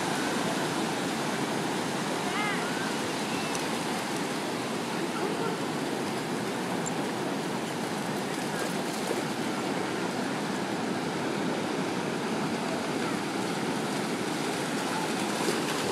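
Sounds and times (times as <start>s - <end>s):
ocean waves breaking: 0.0s - 15.9s.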